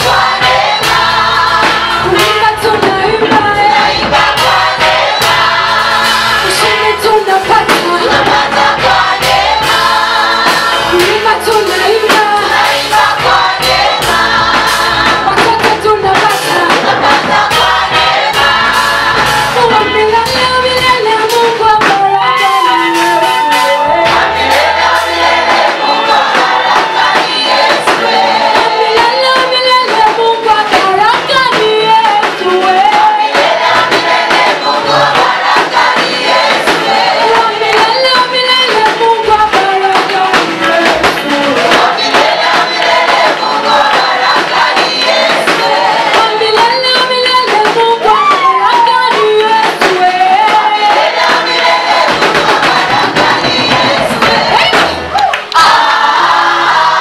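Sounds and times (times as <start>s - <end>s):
choir singing gospel song: 0.0s - 57.0s
instrumental backing with beat: 0.0s - 57.0s.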